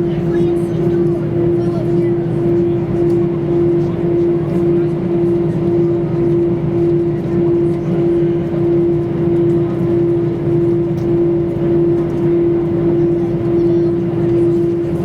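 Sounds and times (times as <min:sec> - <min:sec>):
jet engines idling in cabin: 0:00.0 - 0:15.0.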